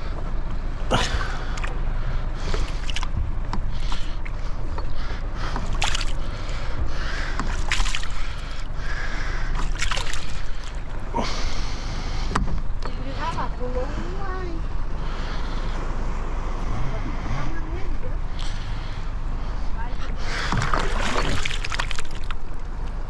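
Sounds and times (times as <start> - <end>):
water splashing around boat: 0.0 - 13.8, 17.4 - 23.0.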